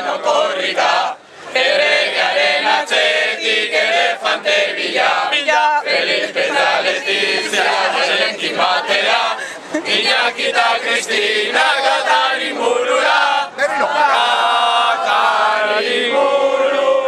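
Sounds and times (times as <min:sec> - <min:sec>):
group singing in unison: 0:00.0 - 0:17.0.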